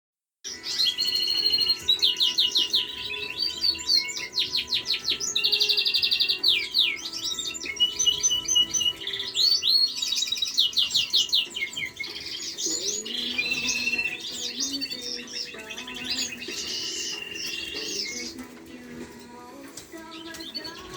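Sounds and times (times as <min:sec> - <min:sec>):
canaries singing trills: 0:00.5 - 0:20.9.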